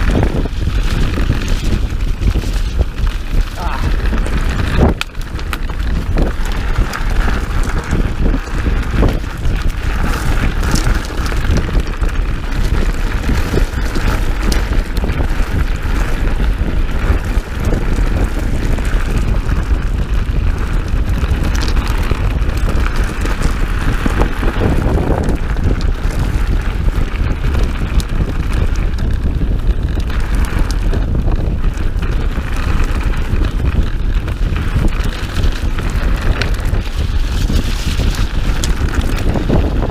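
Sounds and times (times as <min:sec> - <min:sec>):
bike rattling over bumps: 0:00.0 - 0:39.9
tyres on dirt: 0:00.0 - 0:39.9
wind rumble on microphone: 0:00.0 - 0:39.9.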